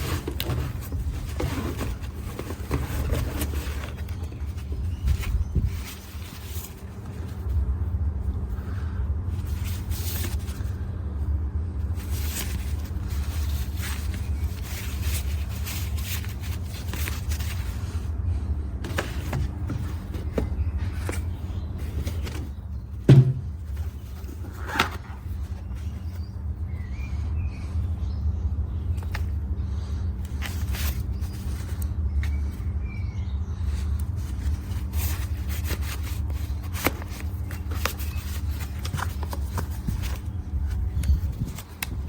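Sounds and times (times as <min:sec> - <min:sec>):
low mechanical hum: 0:00.0 - 0:42.0.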